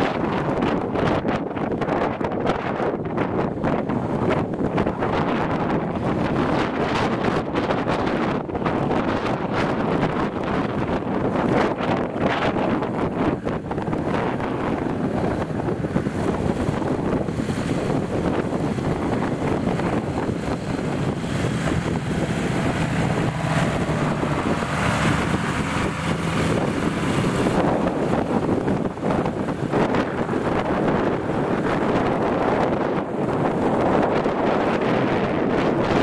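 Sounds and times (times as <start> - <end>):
off-road vehicle engines running: 0.0 - 36.0
wind buffeting microphone: 0.0 - 36.0.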